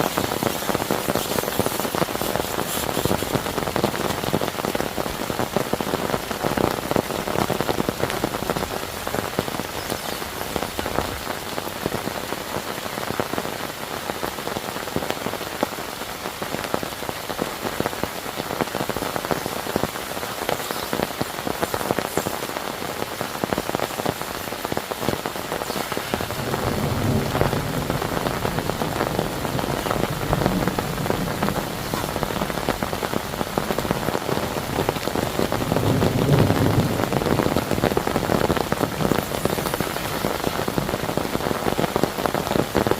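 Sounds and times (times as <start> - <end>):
heavy rain: 0.0 - 42.9
raindrops striking a surface: 0.0 - 42.9.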